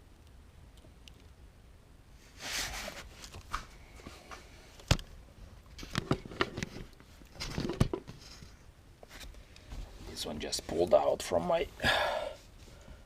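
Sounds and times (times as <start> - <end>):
wires rustling: 2.1 - 13.0.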